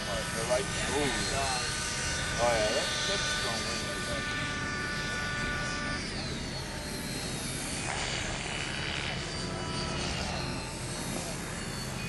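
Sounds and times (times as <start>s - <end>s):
rc helicopter rotor whining: 0.0s - 12.0s.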